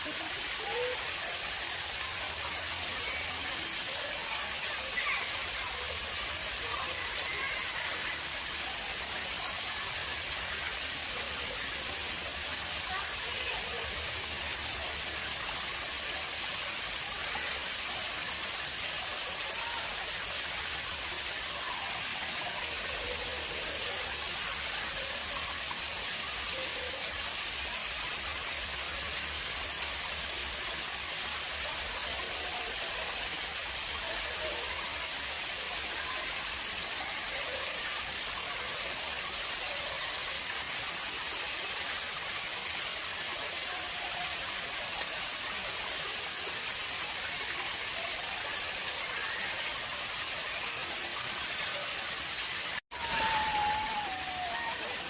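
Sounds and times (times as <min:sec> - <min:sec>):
water splashing in a pond: 0:00.0 - 0:55.0.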